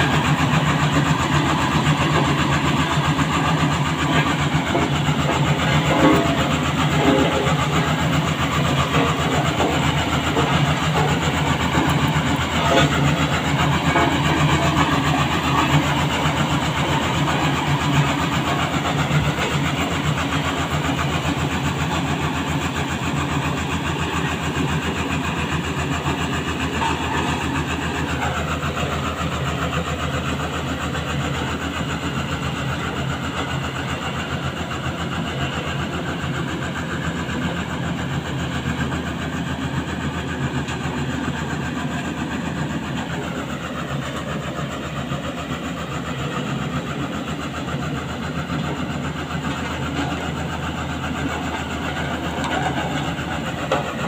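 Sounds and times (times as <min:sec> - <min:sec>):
road roller diesel engine: 0:00.0 - 0:54.0.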